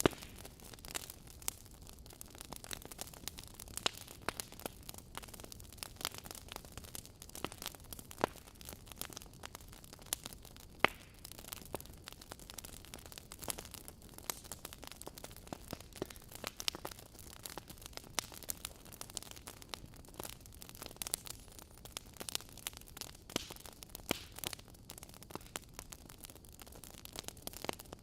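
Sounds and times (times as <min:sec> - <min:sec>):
soft steady hiss: 0:00.0 - 0:28.0
wood fire crackling: 0:00.0 - 0:28.0.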